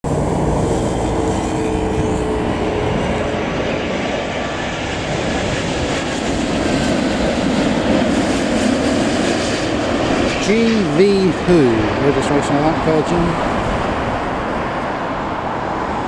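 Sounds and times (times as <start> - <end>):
jet engines roaring overhead: 0.0 - 16.0.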